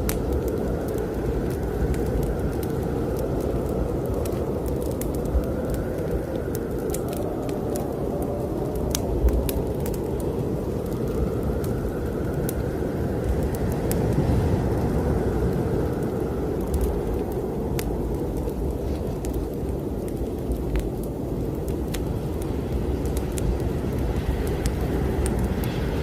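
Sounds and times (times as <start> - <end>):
howling wind: 0.0 - 26.0
wood fire crackling: 0.0 - 26.0.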